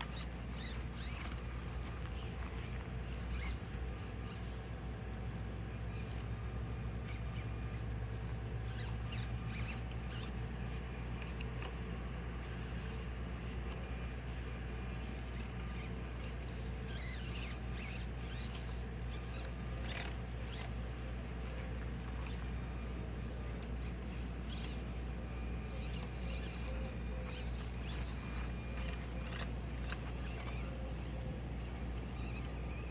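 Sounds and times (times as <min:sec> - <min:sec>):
steady low hum: 0:00.0 - 0:32.9
tiny motor whirring: 0:00.0 - 0:32.9
tires scraping on rock: 0:00.0 - 0:32.9.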